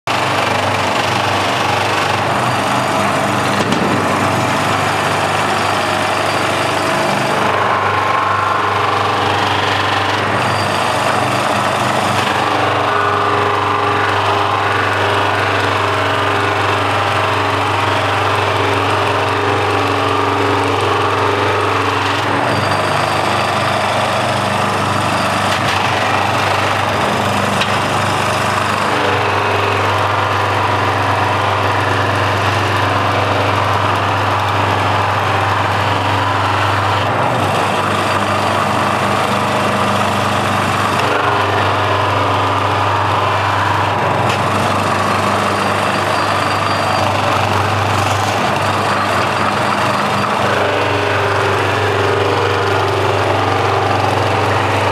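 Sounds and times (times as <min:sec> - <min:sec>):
electric motor humming: 0:00.1 - 0:54.9.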